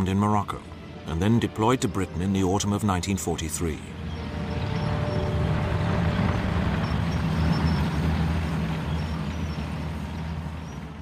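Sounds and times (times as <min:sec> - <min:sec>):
tank engine rumble: 0:00.0 - 0:11.0
track and road noise: 0:00.0 - 0:11.0.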